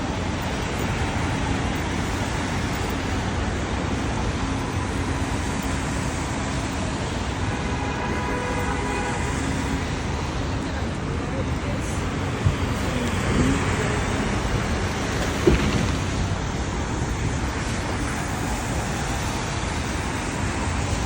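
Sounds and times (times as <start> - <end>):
traffic on wet streets: 0.0 - 21.0.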